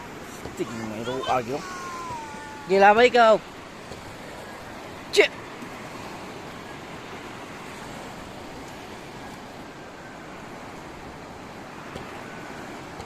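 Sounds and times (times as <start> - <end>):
sea surf: 0.0 - 13.0.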